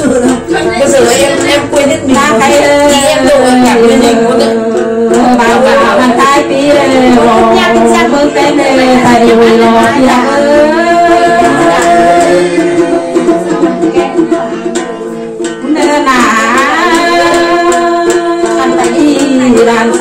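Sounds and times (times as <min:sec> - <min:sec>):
woman singing into a microphone: 0:00.0 - 0:14.9, 0:15.6 - 0:20.0
plucked lute: 0:00.0 - 0:20.0.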